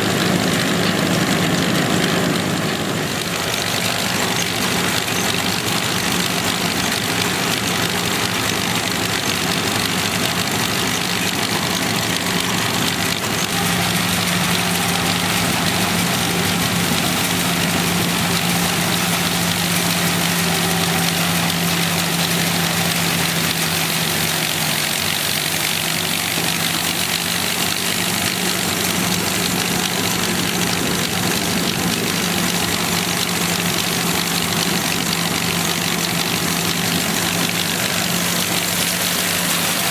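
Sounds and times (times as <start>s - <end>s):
engine humming: 0.0s - 39.9s
machinery clattering and hissing: 0.0s - 39.9s.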